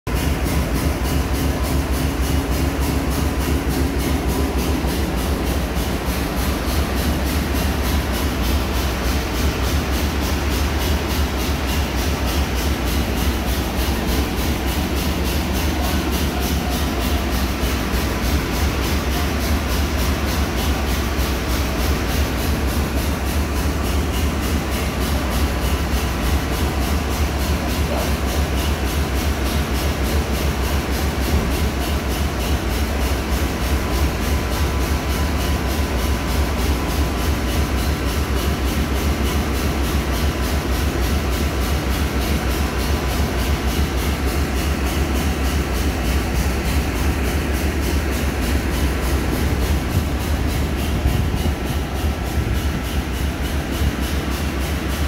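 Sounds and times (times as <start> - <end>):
machinery low rumble: 0.1 - 55.0.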